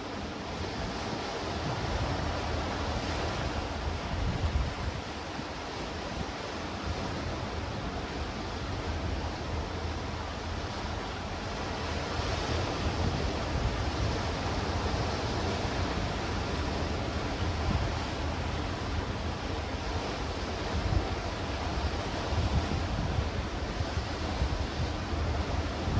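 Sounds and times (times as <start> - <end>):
waves washing over rocks: 0.0 - 25.9
wind buffeting microphone: 0.6 - 25.9.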